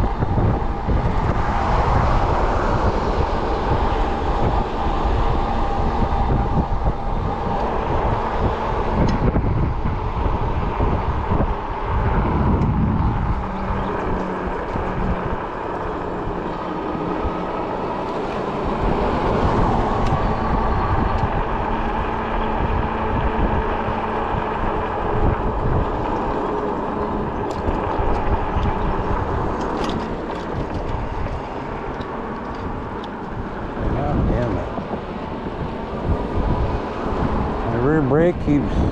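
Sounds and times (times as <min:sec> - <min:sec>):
steady hum: 0:00.0 - 0:38.9
wind buffeting microphone: 0:00.0 - 0:38.9.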